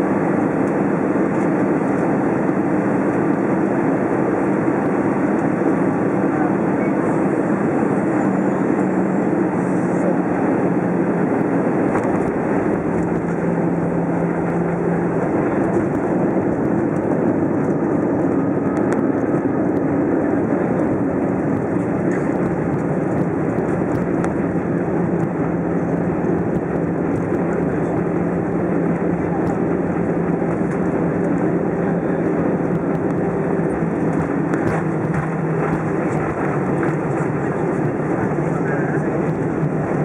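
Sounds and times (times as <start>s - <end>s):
airplane rolling noise in cabin: 0.0s - 40.0s
low engine hum: 0.0s - 40.0s.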